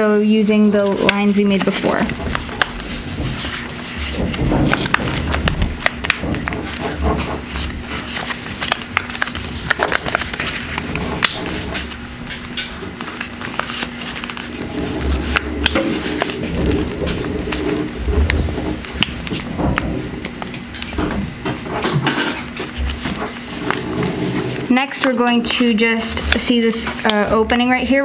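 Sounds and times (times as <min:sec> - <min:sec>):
paper rustling and crackling: 0:00.8 - 0:28.0.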